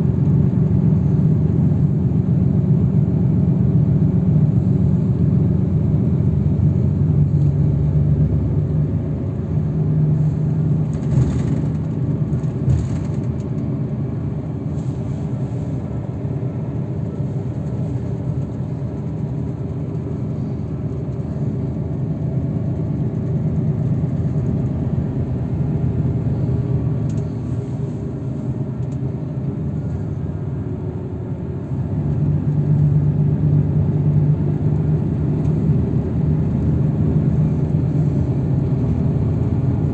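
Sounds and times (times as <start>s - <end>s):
engine drone: 0.0s - 39.9s
road rumble: 0.0s - 39.9s.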